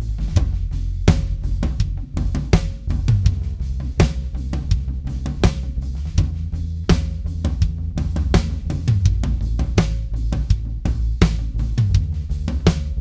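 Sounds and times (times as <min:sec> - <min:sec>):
drum kit playing groove: 0:00.0 - 0:13.0.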